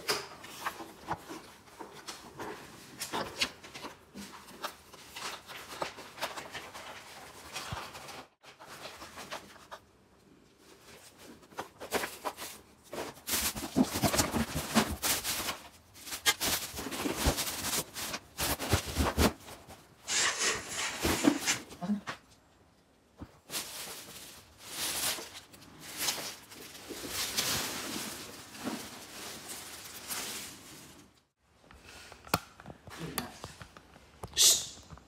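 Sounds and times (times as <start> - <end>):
plastic wrap and cardboard crinkling: 0.0 - 22.0, 23.2 - 31.4.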